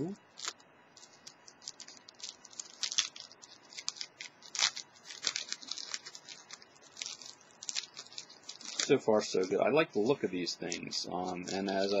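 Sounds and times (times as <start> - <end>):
foil wrapper crinkling and tearing: 0.3 - 12.0.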